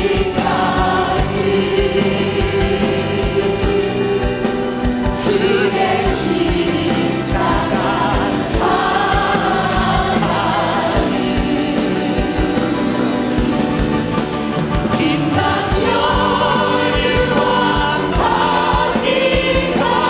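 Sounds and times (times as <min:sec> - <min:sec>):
band accompaniment: 0:00.0 - 0:20.0
choir singing a hymn: 0:00.0 - 0:20.0
steady drum beat: 0:00.0 - 0:20.0.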